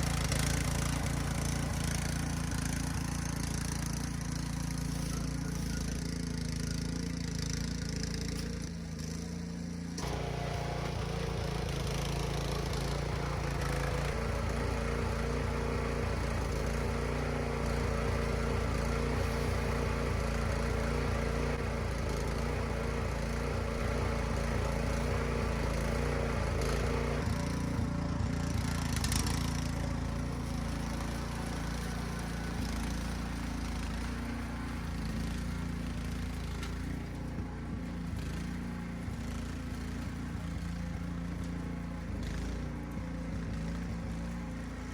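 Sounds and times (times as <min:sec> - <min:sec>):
garden tiller engine running: 0:00.0 - 0:44.9.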